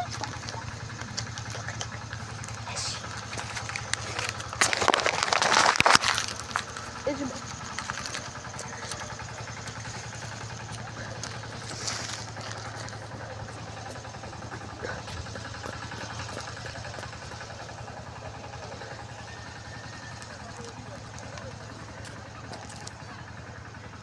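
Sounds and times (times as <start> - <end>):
motor humming: 0.0 - 24.0.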